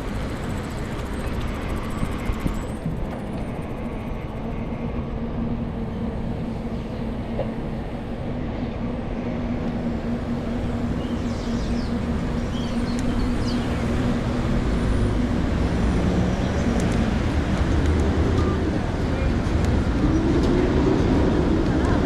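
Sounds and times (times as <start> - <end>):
road noise rumble: 0.0 - 22.0
vehicle engine hum: 0.0 - 22.0.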